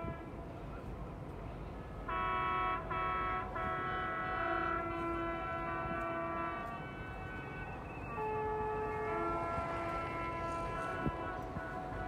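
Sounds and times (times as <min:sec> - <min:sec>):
boat horn blasts: 0:00.0 - 0:00.5, 0:02.0 - 0:12.0.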